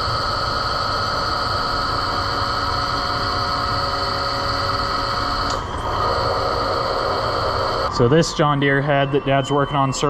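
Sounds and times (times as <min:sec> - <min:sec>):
machine whining: 0:00.0 - 0:10.0.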